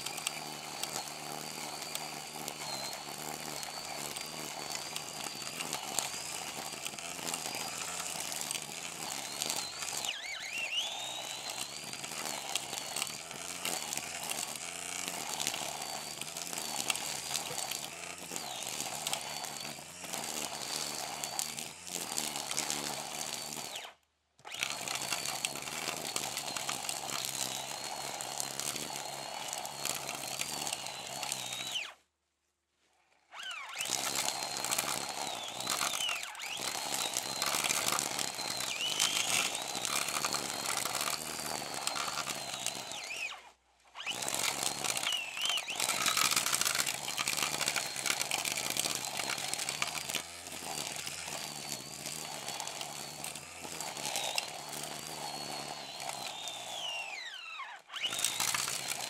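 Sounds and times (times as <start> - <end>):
brush cutter whining: 0.0 - 32.1, 33.0 - 59.0.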